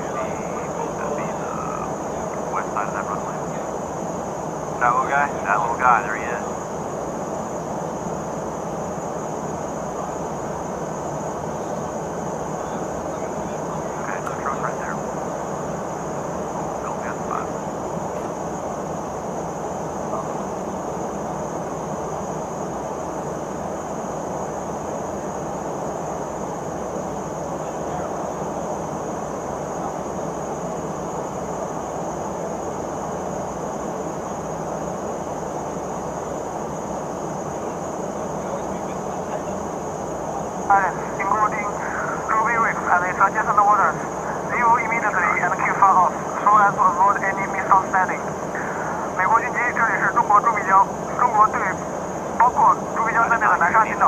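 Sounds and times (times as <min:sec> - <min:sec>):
jet engine and airflow rush: 0:00.0 - 0:54.0
thin high whine: 0:00.0 - 0:54.0.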